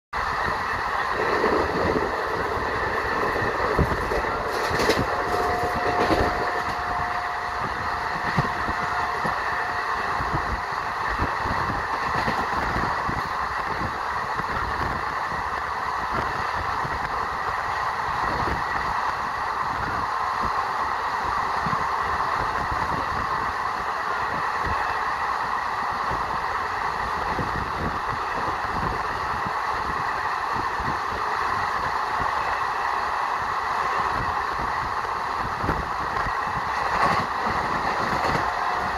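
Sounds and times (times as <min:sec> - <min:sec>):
train running: 0:00.2 - 0:38.9.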